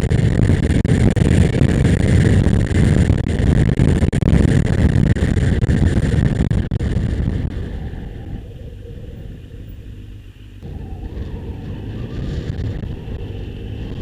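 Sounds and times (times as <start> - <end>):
motorcycle engine: 0.0 - 14.0
wind rumble: 0.0 - 14.0.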